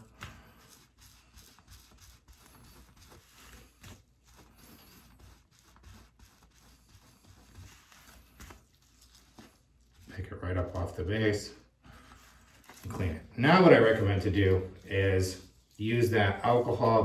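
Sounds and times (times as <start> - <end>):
cloth scraping and rubbing: 0.0 - 17.0.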